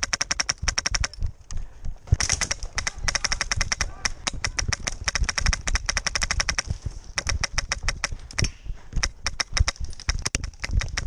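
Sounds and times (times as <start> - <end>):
airsoft guns firing: 0.0 - 1.2, 2.1 - 11.0.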